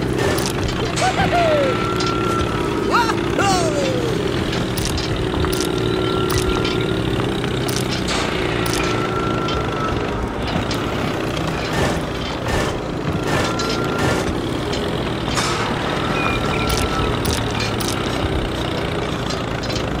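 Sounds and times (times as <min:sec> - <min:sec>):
scattered clicks: 0:00.0 - 0:01.1, 0:03.5 - 0:15.5, 0:16.2 - 0:20.0
toy tractor engine drone: 0:00.0 - 0:20.0.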